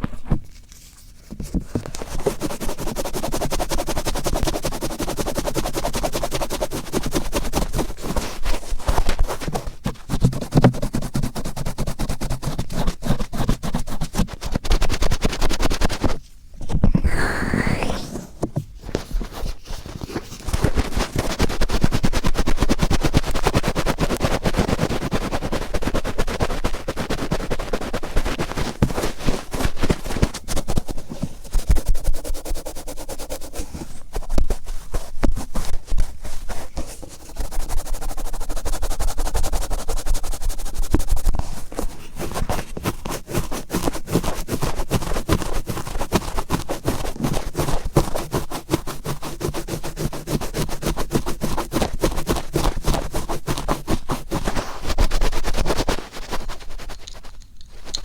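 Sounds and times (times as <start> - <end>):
cotton swab scratching in ear: 1.8 - 16.2, 16.8 - 58.0.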